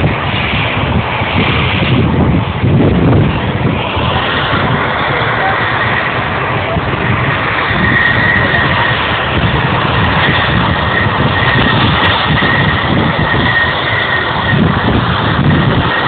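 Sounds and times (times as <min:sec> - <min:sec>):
jet engines roaring with whine: 0:00.0 - 0:16.0.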